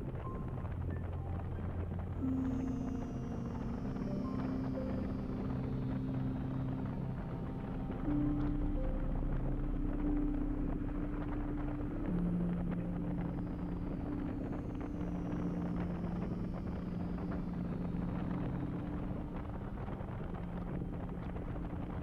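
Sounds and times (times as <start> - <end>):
wind noise: 0.0 - 22.0.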